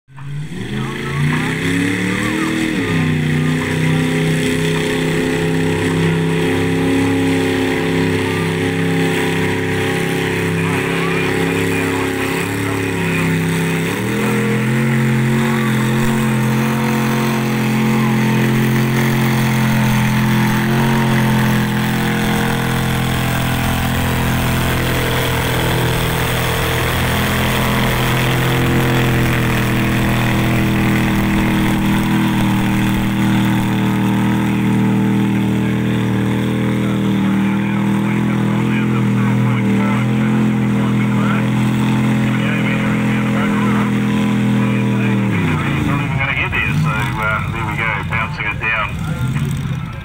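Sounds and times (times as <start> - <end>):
tractor engine under load: 0.1 - 50.0.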